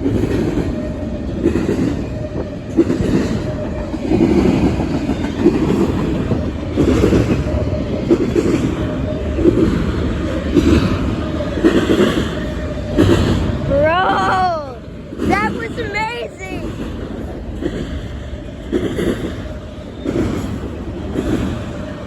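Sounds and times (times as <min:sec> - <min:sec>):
wheels clacking over rail joints: 0:00.0 - 0:13.7, 0:14.8 - 0:22.0
train rumbling past: 0:00.0 - 0:22.0.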